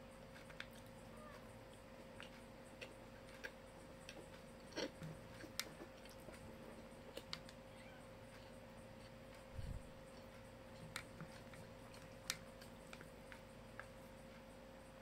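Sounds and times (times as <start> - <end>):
chewing and eating sounds: 0.0 - 15.0
faint steady hum: 0.0 - 15.0.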